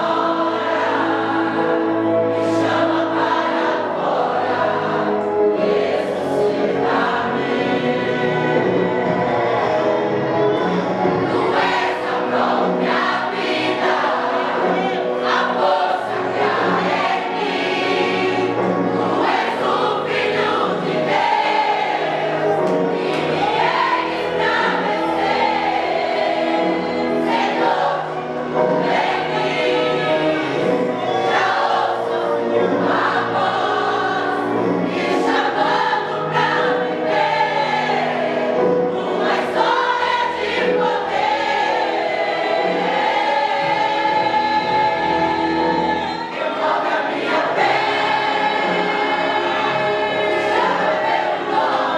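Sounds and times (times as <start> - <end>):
vocal group singing in harmony: 0.0 - 51.9.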